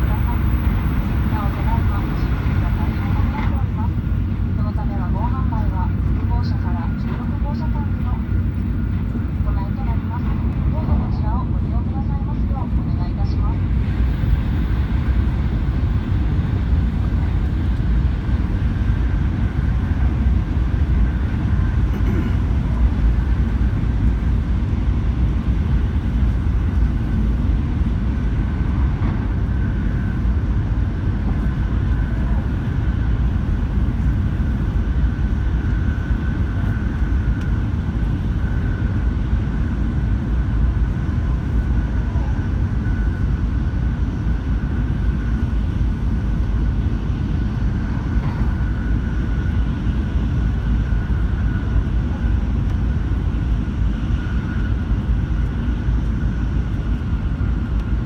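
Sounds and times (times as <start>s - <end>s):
train low rumble: 0.0s - 58.0s.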